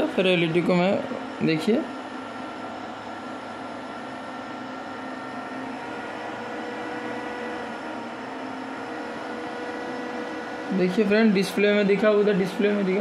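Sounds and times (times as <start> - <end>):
welding machine electrical hum: 0.0 - 13.0.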